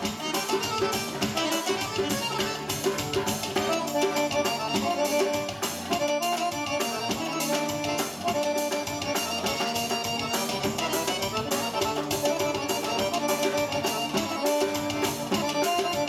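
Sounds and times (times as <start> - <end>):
accordion melody: 0.0 - 16.0
keyboard backing: 0.0 - 16.0
large drum steady beat: 0.0 - 16.0.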